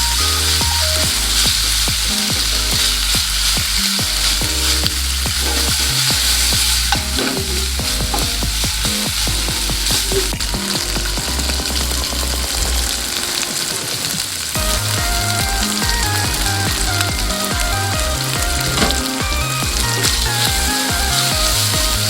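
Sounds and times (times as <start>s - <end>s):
background music: 0.0s - 22.0s
food sizzling in a frying pan: 0.0s - 22.0s.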